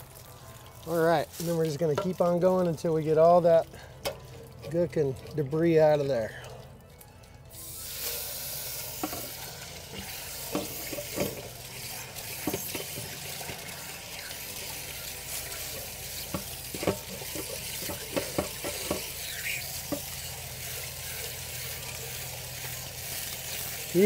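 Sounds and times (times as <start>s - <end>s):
water gushing from a drain: 0.0s - 6.7s, 7.5s - 24.0s
water spraying inside a tank: 0.0s - 24.0s.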